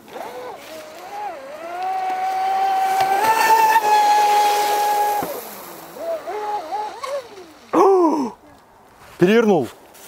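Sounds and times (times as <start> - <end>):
electric motor whining: 0.0 - 8.6.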